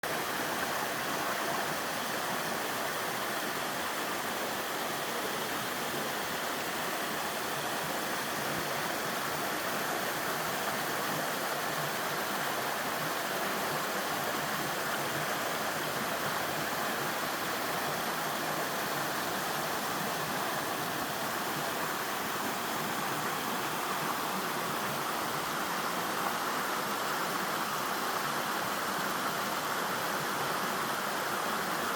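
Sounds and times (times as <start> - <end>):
waterfall rushing over rock: 0.0 - 31.9.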